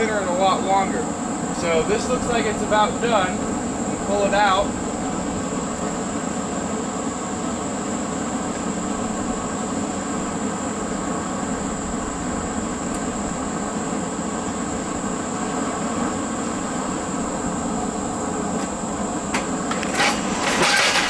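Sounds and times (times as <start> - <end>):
gas forge burner roaring: 0.0 - 21.0.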